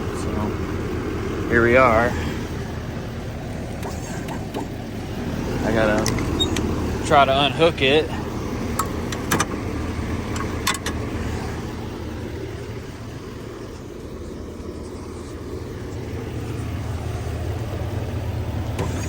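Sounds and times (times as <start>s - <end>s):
pickup truck engine idling: 0.0s - 19.0s.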